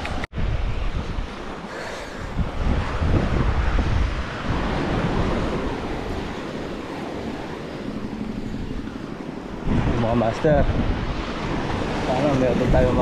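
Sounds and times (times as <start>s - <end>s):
sea waves washing ashore: 0.0s - 13.0s
wind buffeting microphone: 0.0s - 13.0s.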